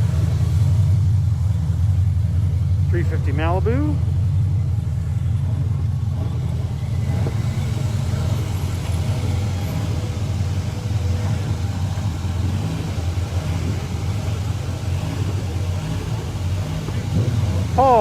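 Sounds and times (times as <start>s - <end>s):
car engine exhaust rumble: 0.0s - 18.0s.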